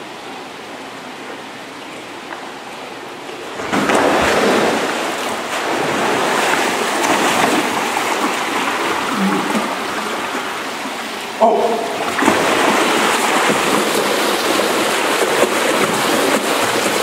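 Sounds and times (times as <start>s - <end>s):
fountain water rushing: 0.0s - 17.0s.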